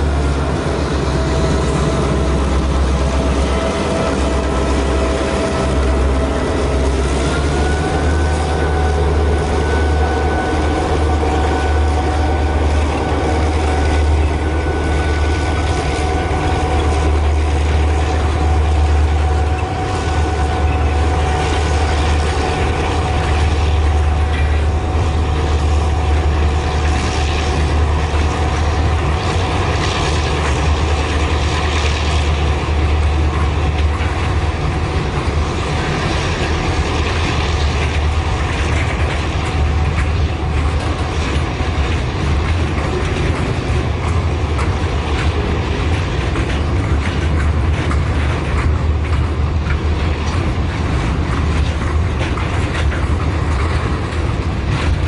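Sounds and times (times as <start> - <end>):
thin steady whine: 0.0 - 47.0
diesel locomotive engine drone: 0.0 - 55.0
freight wagons rattling and clanking: 0.0 - 55.0.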